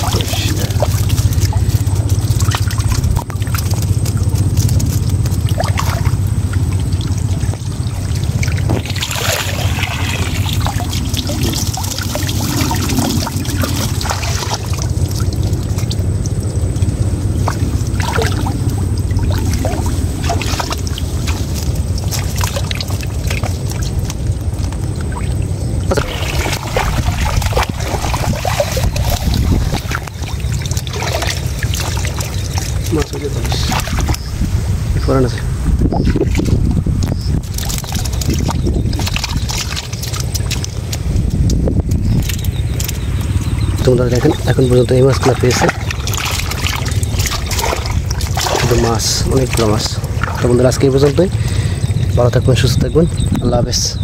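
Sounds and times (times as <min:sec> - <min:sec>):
small splashes and knocks: 0:00.0 - 0:34.4, 0:36.0 - 0:52.1
water pouring and trickling: 0:00.0 - 0:53.3
steady low rumble: 0:00.0 - 0:54.0.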